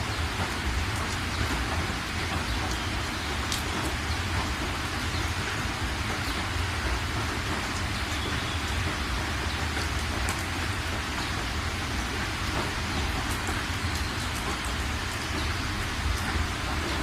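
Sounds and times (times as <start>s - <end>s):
rain hissing with drop ticks: 0.0s - 17.0s.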